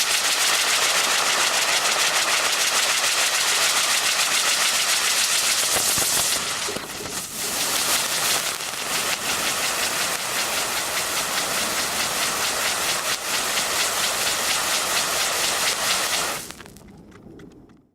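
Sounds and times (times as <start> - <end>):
spinning firework wheel hissing: 0.0 - 16.7.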